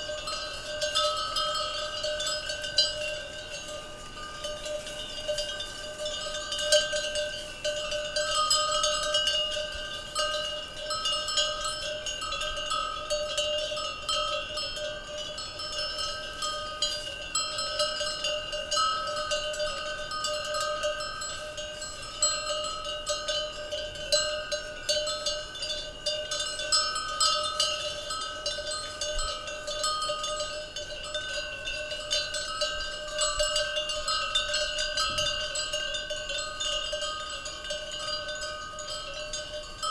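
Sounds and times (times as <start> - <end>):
cowbells clanking: 0.0 - 39.9.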